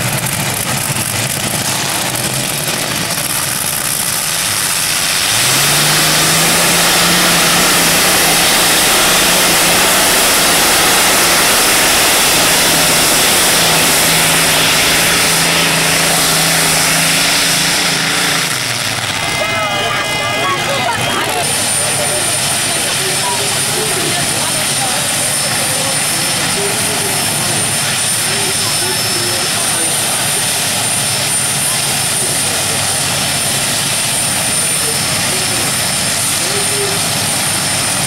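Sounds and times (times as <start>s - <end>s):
tractor engine revving hard: 0.0s - 38.0s.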